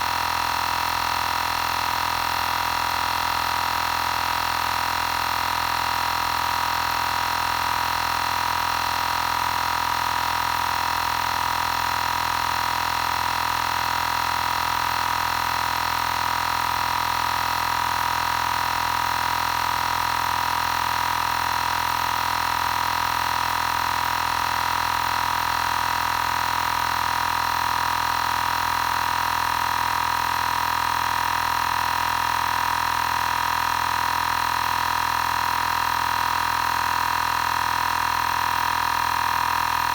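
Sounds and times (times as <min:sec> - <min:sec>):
air compressor electric hum: 0:00.0 - 0:39.9.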